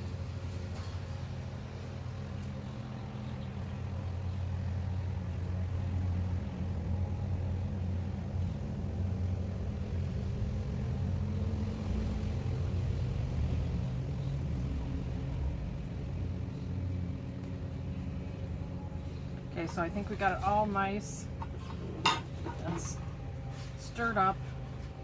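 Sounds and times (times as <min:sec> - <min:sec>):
low mechanical rumble: 0:00.0 - 0:25.0.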